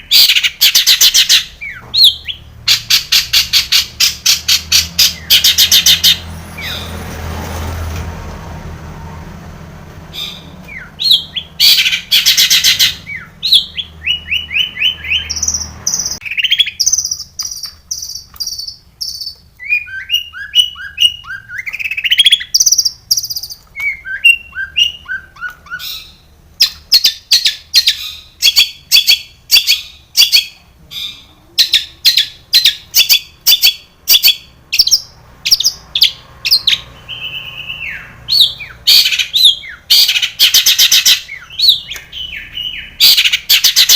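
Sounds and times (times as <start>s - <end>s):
shrike singing trills and whistles: 0.0s - 6.9s, 10.1s - 43.9s
sharp repeated bird notes: 0.0s - 7.1s, 10.0s - 43.9s.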